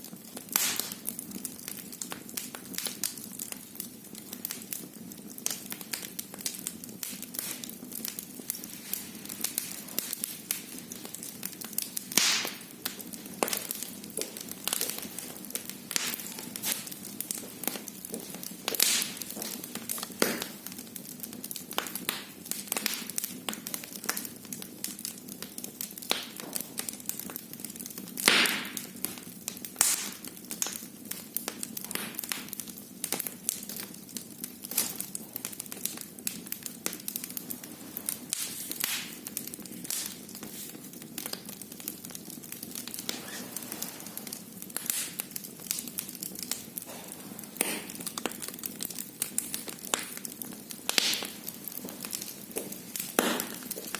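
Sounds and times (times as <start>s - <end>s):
fireplace fire crackling and popping: 0.0s - 53.9s.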